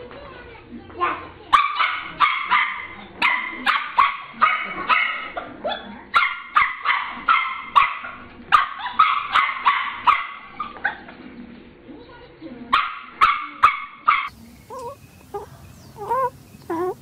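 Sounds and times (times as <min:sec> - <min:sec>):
small dog barking: 0:01.0 - 0:11.0, 0:12.7 - 0:17.0.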